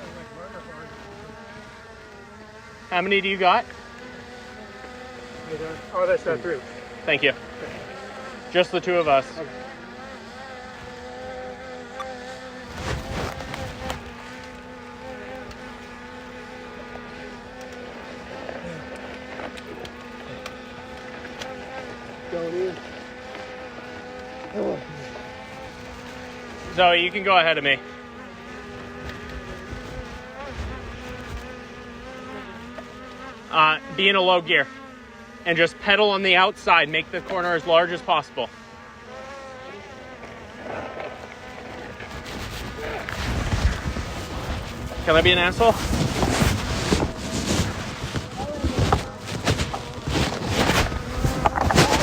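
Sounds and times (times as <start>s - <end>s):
drone propellers humming: 0.0s - 52.0s.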